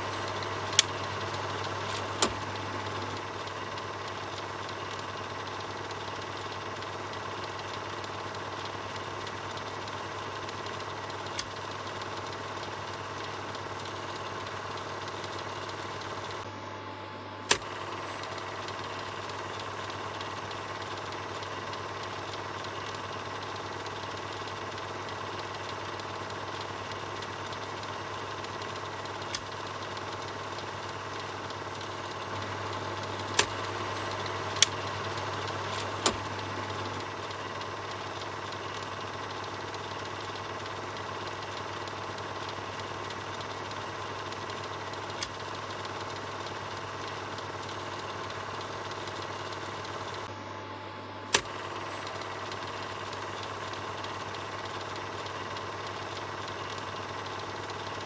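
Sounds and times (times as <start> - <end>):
sharp clicks: 0.0 - 16.5, 17.5 - 50.3, 51.3 - 58.0
film projector whirring: 0.0 - 58.0.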